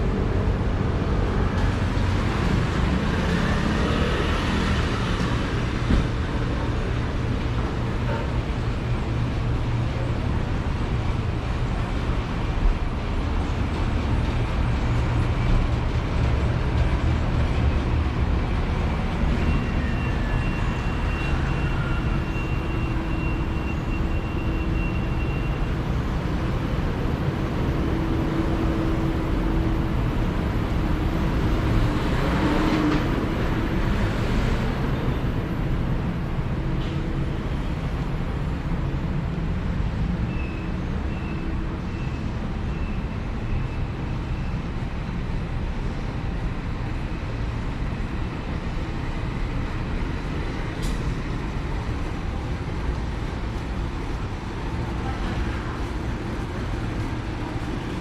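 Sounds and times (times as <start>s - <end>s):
city street traffic rumble: 0.0s - 58.0s.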